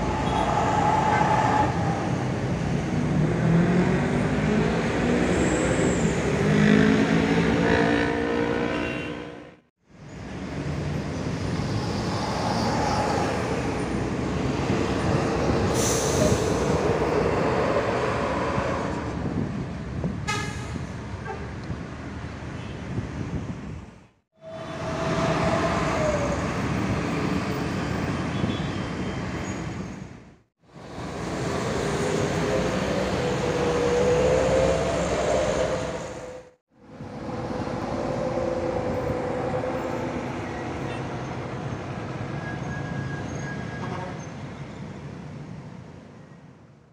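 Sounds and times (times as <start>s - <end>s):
bus diesel engines pulling away: 0.0s - 9.0s, 9.9s - 21.2s, 24.4s - 45.4s
road traffic: 0.0s - 46.9s.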